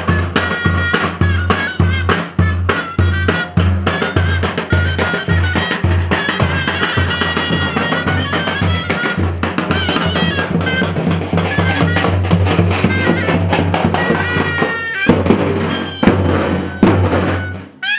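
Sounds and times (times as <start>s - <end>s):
bass drums beaten fast: 0.0s - 17.8s
shrill reed-pipe melody: 0.0s - 17.9s.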